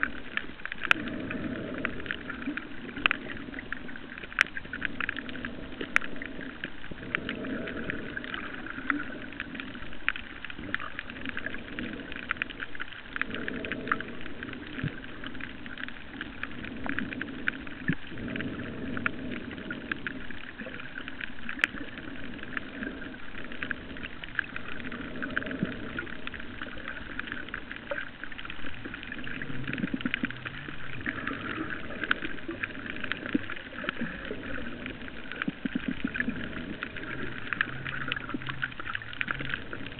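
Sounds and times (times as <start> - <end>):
crackle of fine clicks underwater: 0.0 - 39.9
low rumble of moving water: 0.0 - 39.9.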